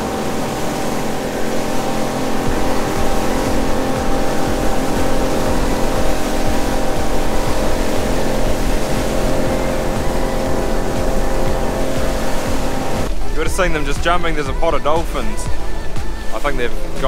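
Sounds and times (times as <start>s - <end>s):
motorboat engine running: 0.0s - 17.0s
water rushing along hull: 0.0s - 17.0s.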